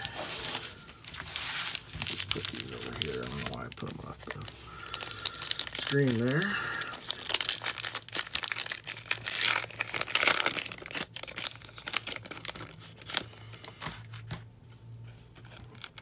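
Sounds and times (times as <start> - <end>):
wrapper crinkling: 0.4 - 13.6.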